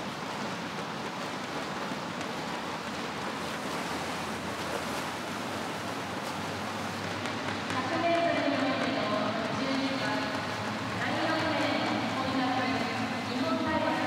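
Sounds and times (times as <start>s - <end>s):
swimmers splashing water: 0.0s - 14.0s.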